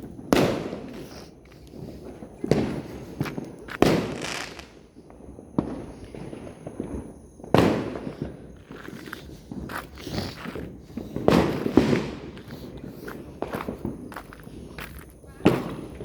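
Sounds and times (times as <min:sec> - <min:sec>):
fireworks bangs echoing: 0:00.0 - 0:09.8, 0:10.6 - 0:14.7, 0:15.4 - 0:16.0
small firework pops: 0:00.0 - 0:16.0.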